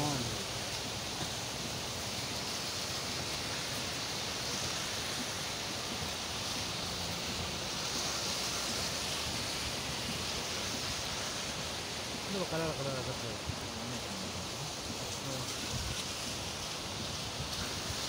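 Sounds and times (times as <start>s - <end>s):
flooded river rushing: 0.0s - 18.0s.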